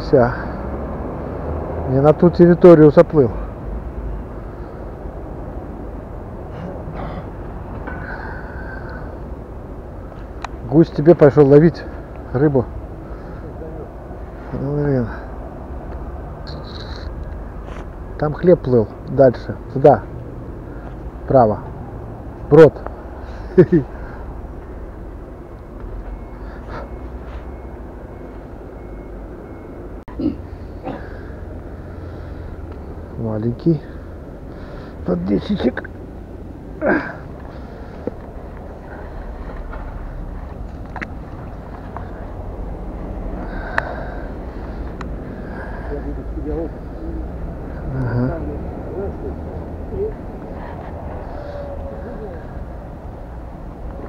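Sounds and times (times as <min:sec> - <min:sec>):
outdoor rumble and hiss: 0:00.0 - 0:54.0.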